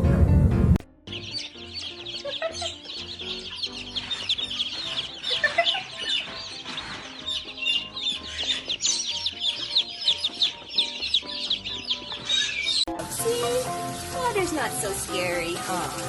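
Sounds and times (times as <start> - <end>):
light background music with low beat: 0.0 - 16.0
chicks peeping: 1.1 - 16.0.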